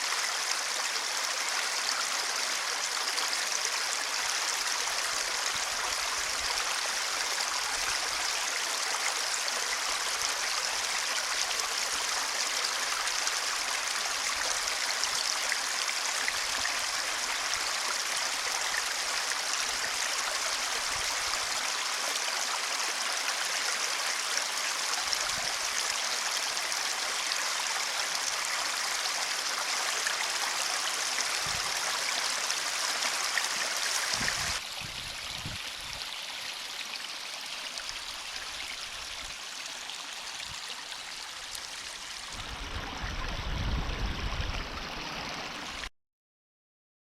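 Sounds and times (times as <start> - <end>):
water flowing in a ditch: 0.0 - 45.9.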